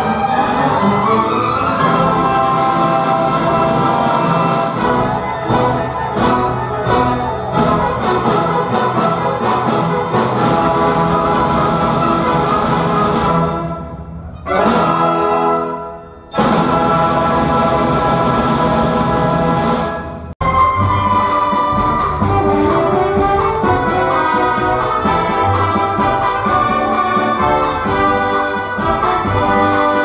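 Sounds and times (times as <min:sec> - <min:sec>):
orchestra playing strings and brass: 0:00.0 - 0:30.0.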